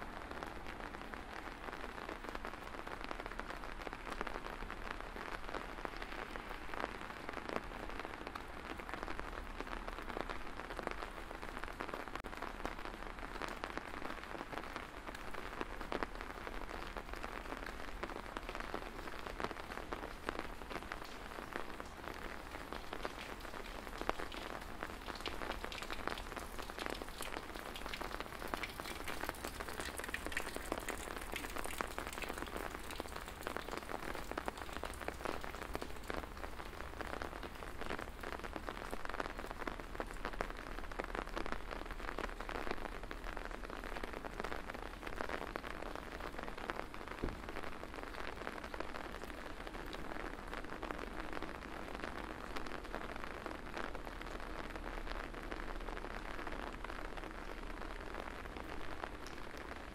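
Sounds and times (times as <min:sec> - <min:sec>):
rain pattering on hard surfaces: 0:00.0 - 0:59.9.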